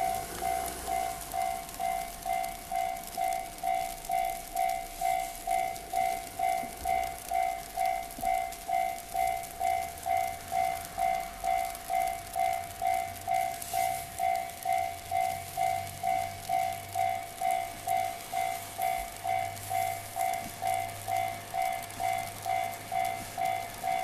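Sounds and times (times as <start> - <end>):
level crossing alarm ringing: 0.0 - 24.0.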